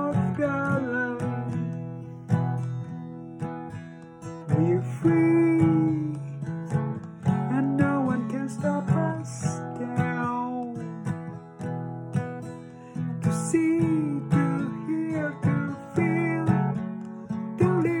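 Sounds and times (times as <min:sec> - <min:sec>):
acoustic guitar strumming: 0:00.0 - 0:18.0
sliding guitar melody: 0:00.0 - 0:18.0.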